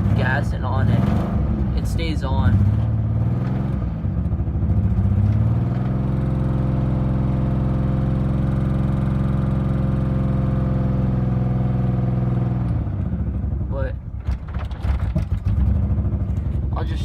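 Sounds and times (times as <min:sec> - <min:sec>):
misfiring car engine revving: 0:00.0 - 0:17.0.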